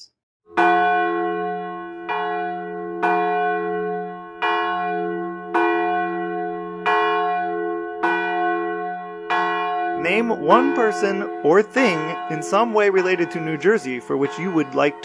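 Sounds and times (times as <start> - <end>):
church bell tolling: 0.5 - 15.0.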